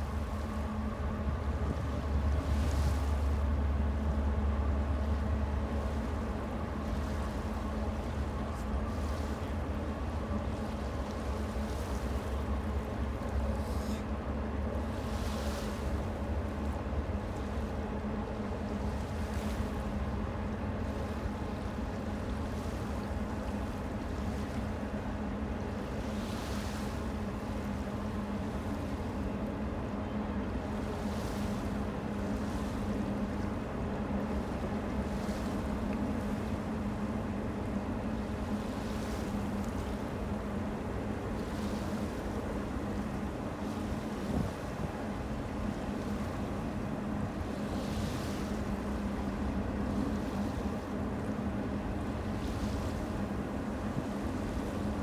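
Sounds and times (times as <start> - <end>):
constant low hum: 0.0 - 55.0.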